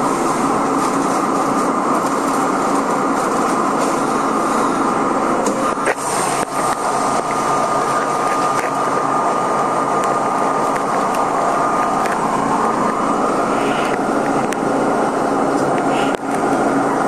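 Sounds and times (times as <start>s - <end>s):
subway car equipment hum: 0.0s - 17.0s.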